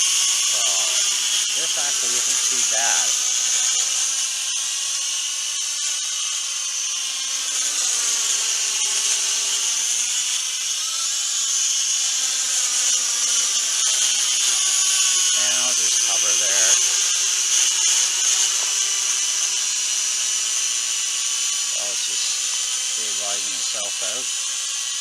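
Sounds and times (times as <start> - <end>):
toy drone propellers whining: 0.0 - 25.0.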